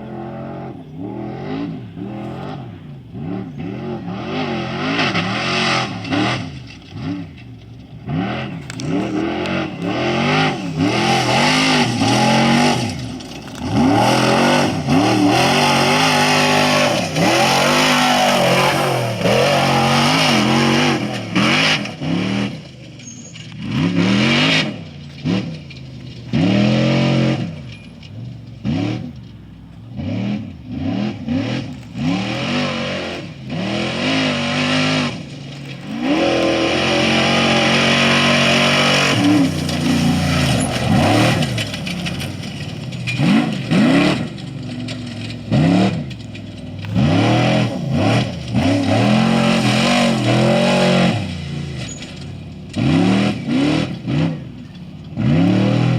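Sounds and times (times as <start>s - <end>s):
race vehicle engines revving: 0.0s - 55.9s.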